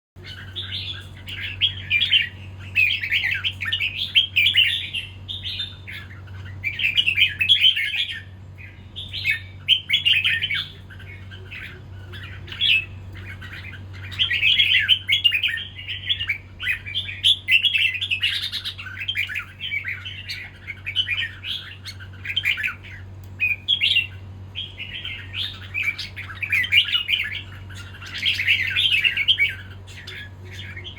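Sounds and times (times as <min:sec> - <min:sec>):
bird chattering song: 0:00.2 - 0:30.9
steady low hum: 0:00.2 - 0:30.9.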